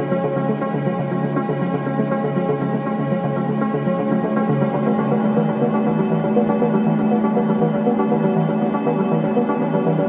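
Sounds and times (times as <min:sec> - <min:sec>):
slow ambient music: 0:00.0 - 0:10.0.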